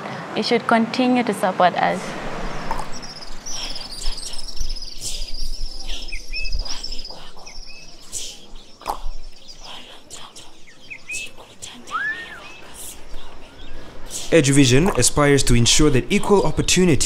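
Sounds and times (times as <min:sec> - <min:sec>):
rising bird chirps: 0:02.0 - 0:17.0.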